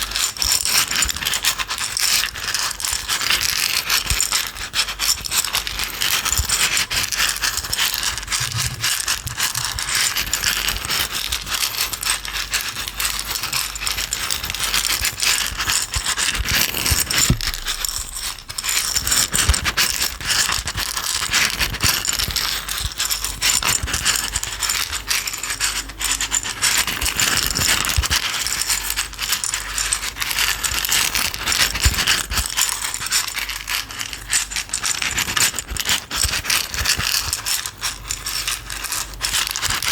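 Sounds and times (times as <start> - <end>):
small dry items rattling in container: 0.0 - 39.9.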